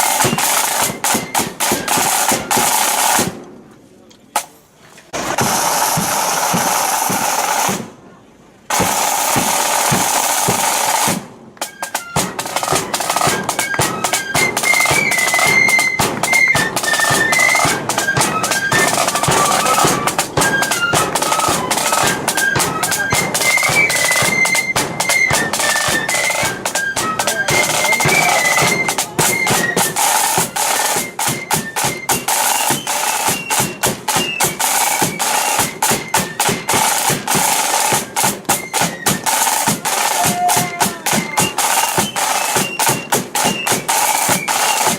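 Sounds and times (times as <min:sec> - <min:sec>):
flute tune: 0:00.0 - 0:03.3, 0:08.7 - 0:44.9
rapid snare drumming: 0:00.0 - 0:03.5, 0:05.2 - 0:08.0, 0:08.7 - 0:44.9.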